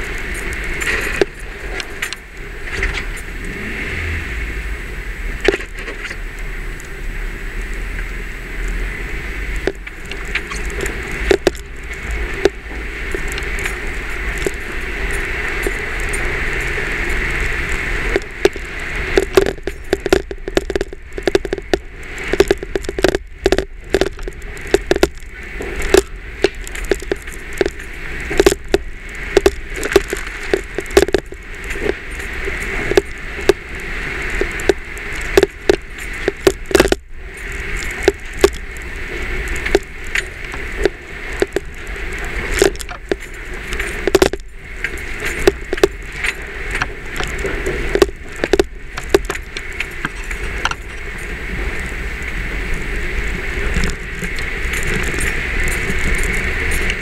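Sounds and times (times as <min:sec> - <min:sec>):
camera rattling against windshield: 0:00.0 - 0:03.7, 0:09.6 - 0:52.1, 0:53.4 - 0:57.0
vehicle rumbling over rocky ground: 0:00.0 - 0:57.0.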